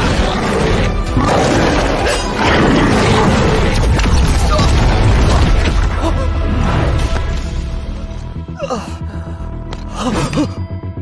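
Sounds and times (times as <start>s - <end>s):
soundtrack music: 0.0s - 11.0s.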